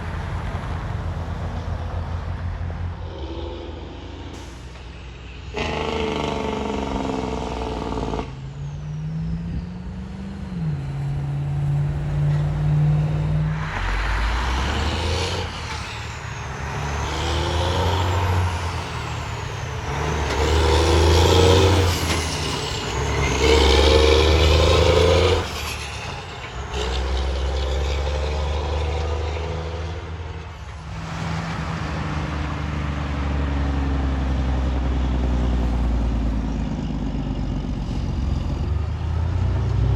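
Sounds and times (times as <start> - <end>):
heavy diesel trucks driving by: 0.0 - 39.9.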